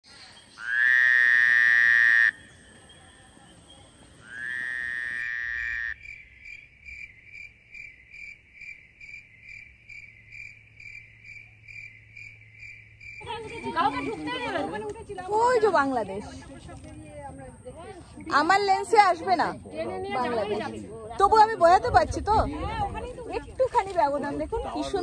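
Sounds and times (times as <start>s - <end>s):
insect chirping: 0.1s - 20.6s.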